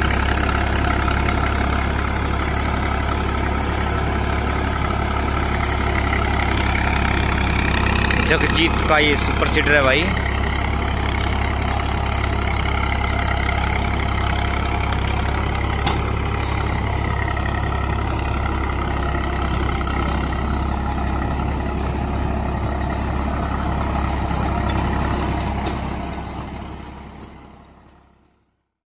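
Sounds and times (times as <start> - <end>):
tractor diesel engine running: 0.0 - 28.6.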